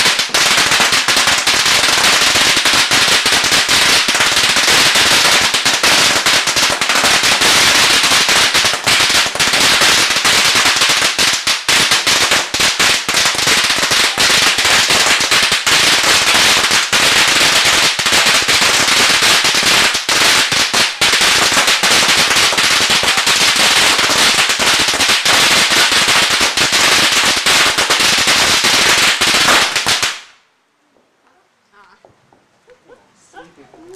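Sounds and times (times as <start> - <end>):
firecrackers banging: 0.0 - 31.2.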